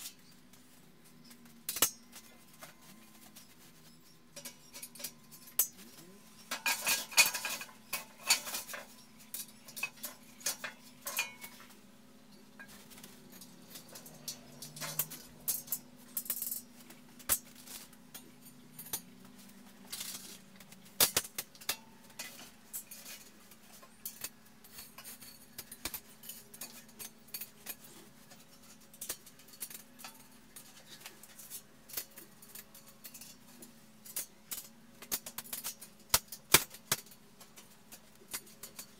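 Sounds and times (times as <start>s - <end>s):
metal bolts clinking on steel frame: 1.2s - 38.9s.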